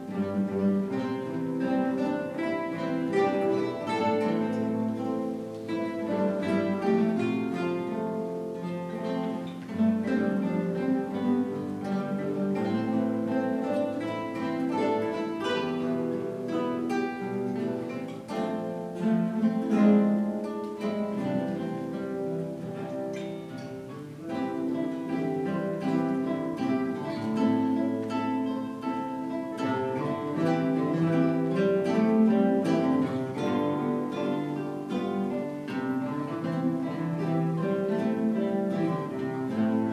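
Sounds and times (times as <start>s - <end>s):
guitar ensemble playing: 0.0s - 39.9s.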